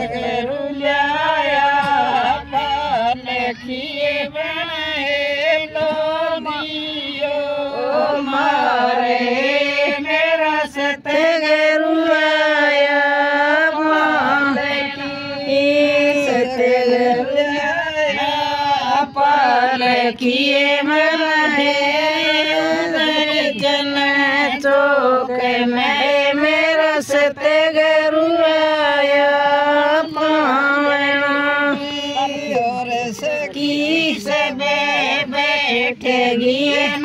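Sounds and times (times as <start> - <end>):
women singing unaccompanied: 0.0 - 37.0.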